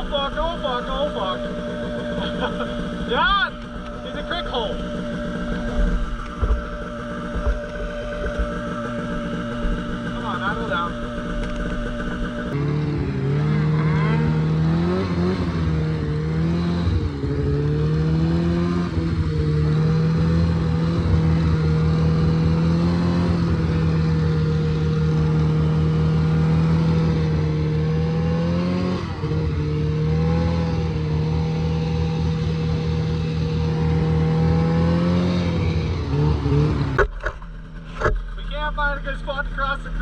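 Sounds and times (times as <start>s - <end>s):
snowmobile engine at high revs: 0.0s - 40.0s.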